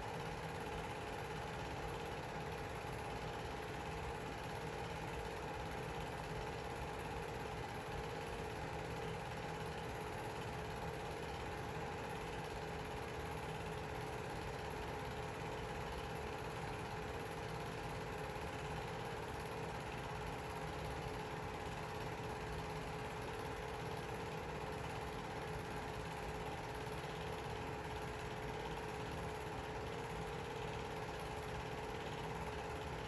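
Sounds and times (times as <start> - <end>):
film projector motor hum: 0.0 - 33.0.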